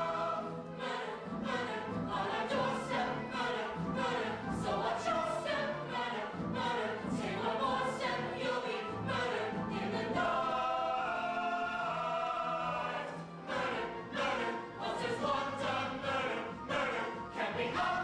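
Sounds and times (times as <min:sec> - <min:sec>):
ensemble singing in chorus: 0:00.0 - 0:18.0.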